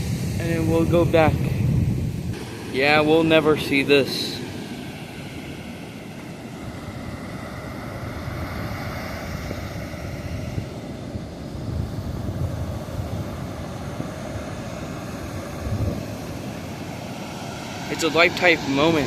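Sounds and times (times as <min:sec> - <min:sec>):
ocean surf hiss: 0:00.0 - 0:19.0
wind buffeting microphone: 0:00.0 - 0:19.0.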